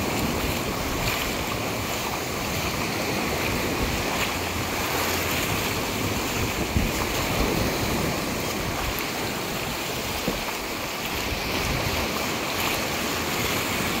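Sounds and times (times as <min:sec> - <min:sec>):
gentle surf on sandy shore: 0:00.0 - 0:14.0
wind rumbling on microphone: 0:00.0 - 0:14.0.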